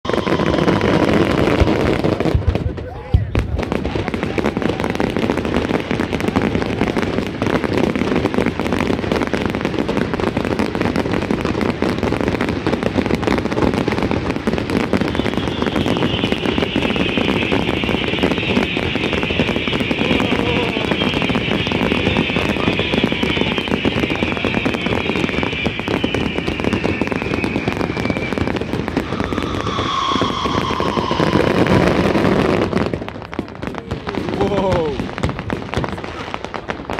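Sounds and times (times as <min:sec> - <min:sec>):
fireworks crackling and popping: 0:00.0 - 0:36.9.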